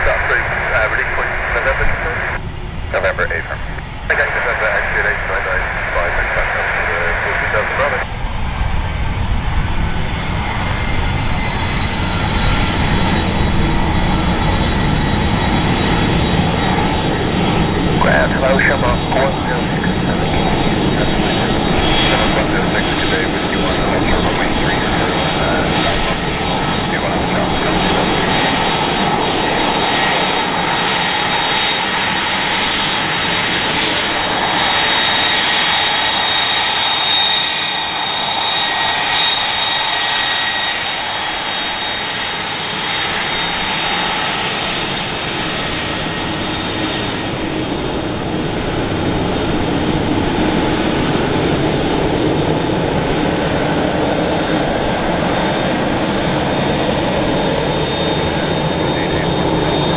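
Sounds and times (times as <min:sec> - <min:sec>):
jet engines taxiing: 0:00.0 - 0:59.9.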